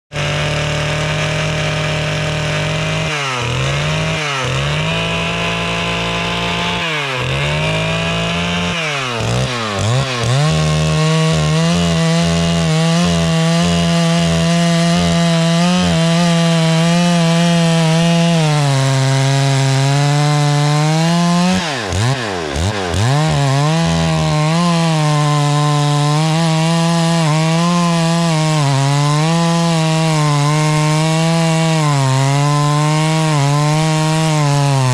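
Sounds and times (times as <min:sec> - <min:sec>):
chainsaw running at high speed: 0:00.1 - 0:34.9.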